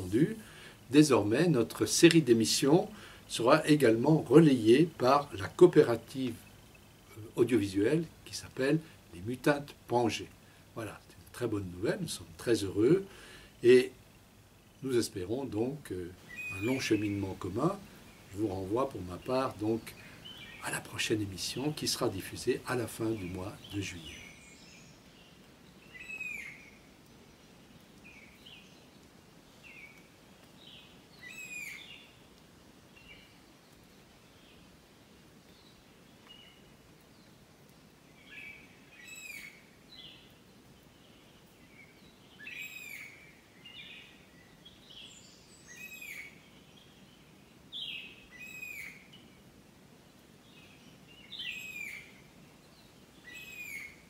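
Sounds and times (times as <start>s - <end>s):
faint bird chirping: 0.0s - 54.0s
low steady hiss: 0.0s - 54.0s.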